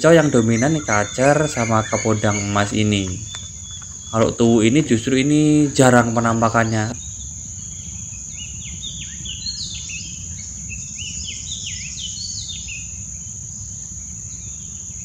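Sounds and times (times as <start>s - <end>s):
bird whistling downward notes: 0.0s - 5.8s, 6.9s - 14.7s
insects droning: 0.0s - 15.0s.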